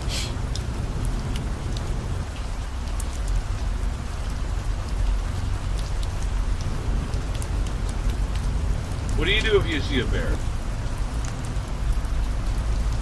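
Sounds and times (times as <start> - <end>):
car driving on road: 0.0 - 13.0
steady rain: 0.0 - 13.0.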